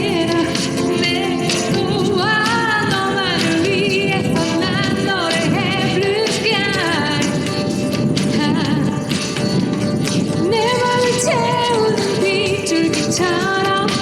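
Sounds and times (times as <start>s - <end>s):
woman singing pop song: 0.0s - 9.7s, 10.3s - 14.0s
band playing with steady beat: 0.0s - 14.0s.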